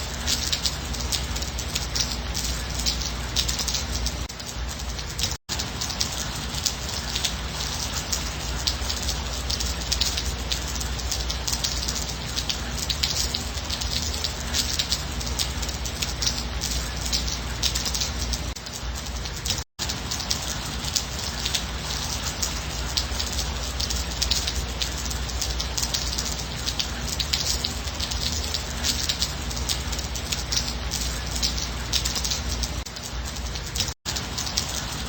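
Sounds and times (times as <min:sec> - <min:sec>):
rain drops hitting a surface: 0:00.0 - 0:35.0.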